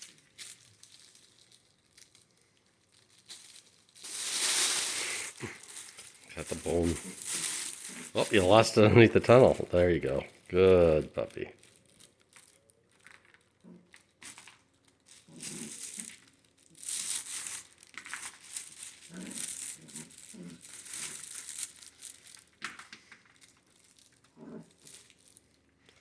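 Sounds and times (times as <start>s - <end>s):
crinkling and rustling: 0.0s - 26.0s.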